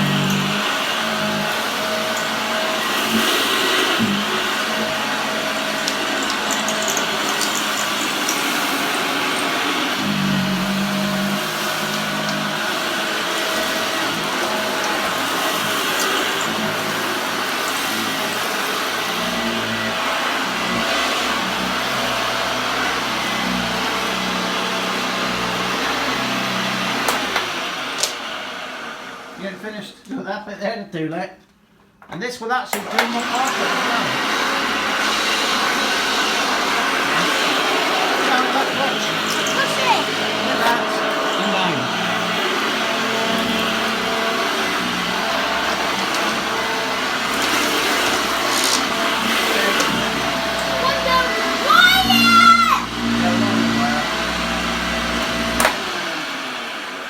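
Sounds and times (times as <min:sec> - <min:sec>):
upright vacuum cleaner running: 0:00.0 - 0:29.8, 0:32.7 - 0:57.0.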